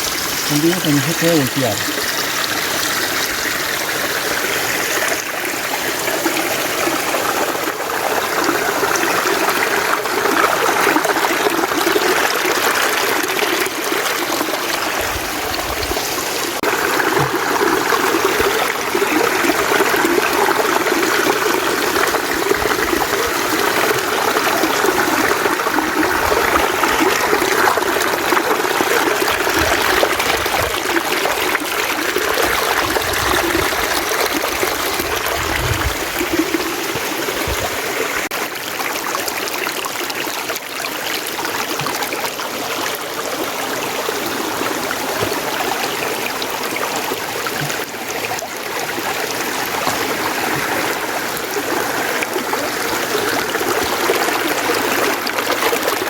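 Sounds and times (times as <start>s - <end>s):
mountain stream running: 0.0s - 56.0s.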